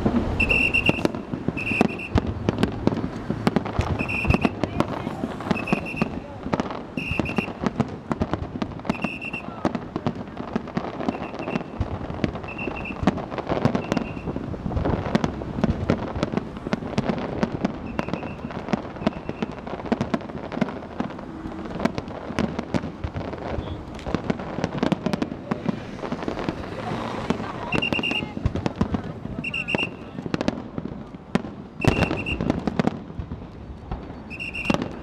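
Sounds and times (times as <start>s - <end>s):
fireworks bursts and crackles: 0.0s - 35.0s.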